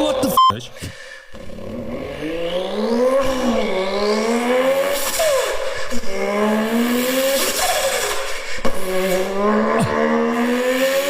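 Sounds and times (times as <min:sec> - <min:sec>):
man imitating race car engine: 0:01.4 - 0:11.0.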